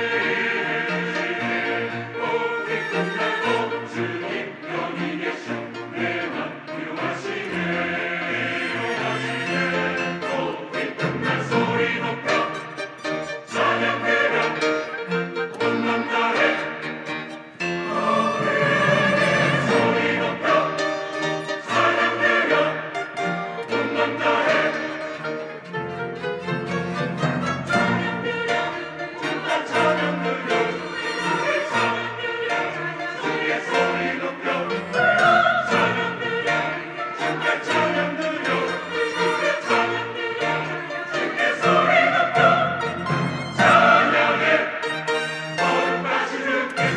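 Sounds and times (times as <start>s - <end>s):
church choir singing: 0.0s - 46.9s
instrumental accompaniment: 0.0s - 46.9s.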